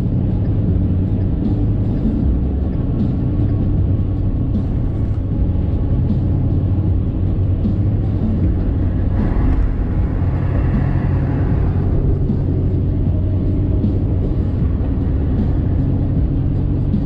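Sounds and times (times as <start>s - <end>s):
diesel engine drone: 0.0s - 17.0s
wind noise: 0.0s - 17.0s.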